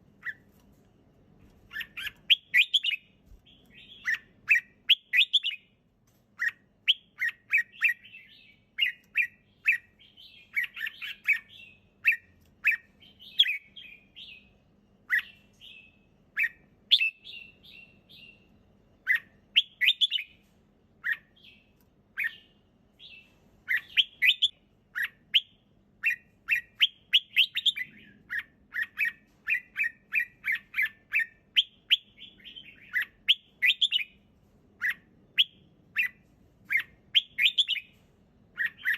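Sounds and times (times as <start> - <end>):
bird chirping song: 0.0 - 0.8, 1.4 - 38.9.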